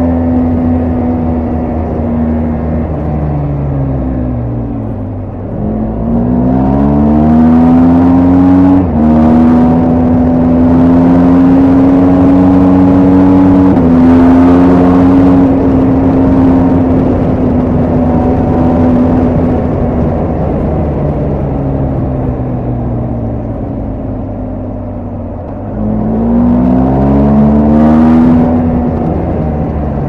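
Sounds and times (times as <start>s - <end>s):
motorcycle engine and exhaust: 0.0s - 30.0s.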